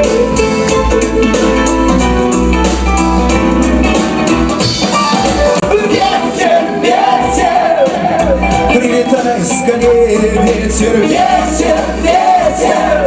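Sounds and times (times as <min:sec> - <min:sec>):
live pop band playing: 0:00.0 - 0:13.0
steady drum beat: 0:00.0 - 0:13.0.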